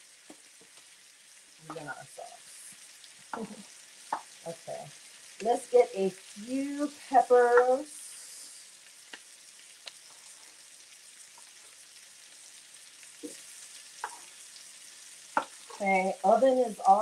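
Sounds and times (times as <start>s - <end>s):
steak sizzling in a pan: 0.0s - 17.0s.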